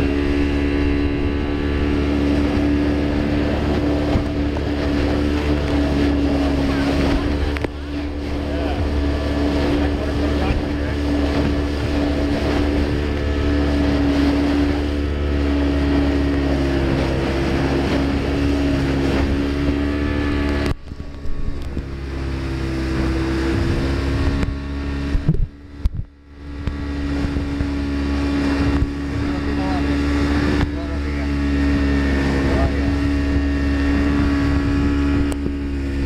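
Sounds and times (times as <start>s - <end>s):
motorboat engine running: 0.0s - 36.0s
wind and water rushing: 0.0s - 36.0s.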